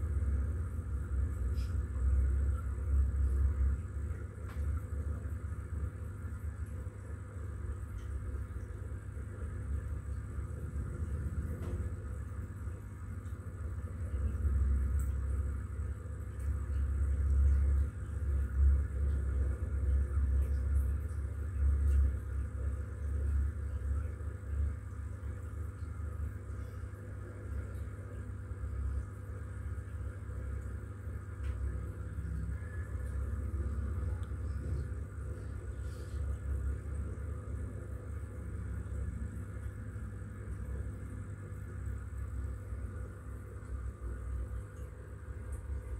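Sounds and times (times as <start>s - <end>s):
faint high whine: 0.0s - 45.9s
faint steady hum: 0.0s - 45.9s
low uneven rumble: 0.0s - 45.9s.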